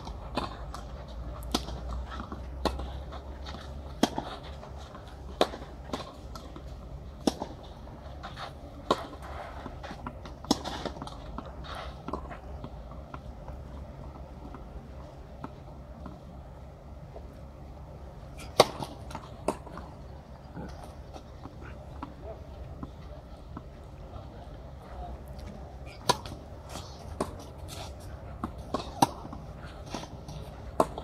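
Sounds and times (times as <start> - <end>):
rackets hitting tennis ball: 0.0 - 14.7, 18.3 - 31.0
low outdoor rumble: 0.0 - 31.0
tennis ball bouncing: 0.2 - 14.7, 18.3 - 23.8, 25.4 - 31.0.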